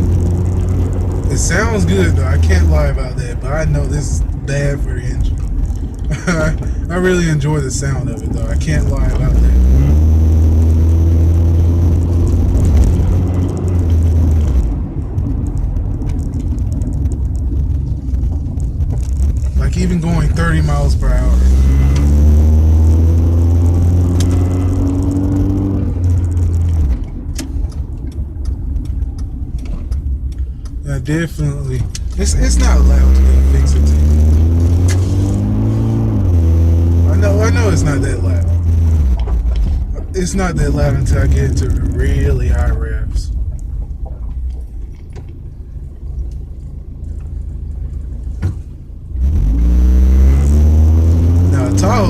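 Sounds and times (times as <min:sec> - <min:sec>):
car engine rumbling and accelerating: 0:00.0 - 0:52.0
low exhaust drone: 0:00.0 - 0:52.0
road noise: 0:00.0 - 0:52.0.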